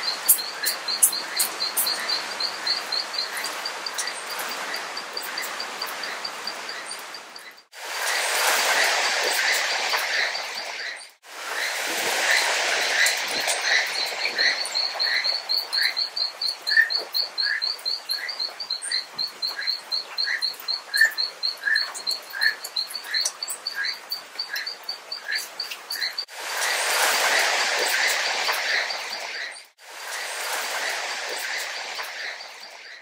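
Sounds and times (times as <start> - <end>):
steady hiss: 0.0 - 21.6, 25.2 - 33.0.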